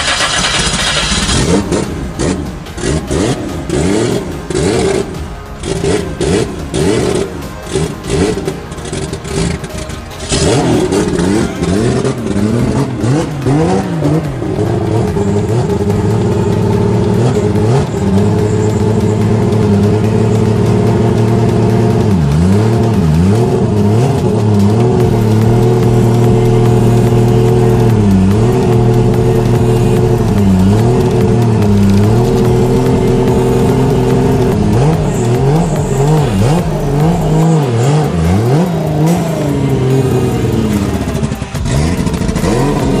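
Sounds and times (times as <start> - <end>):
car engine revving and idling: 0.0 - 43.0.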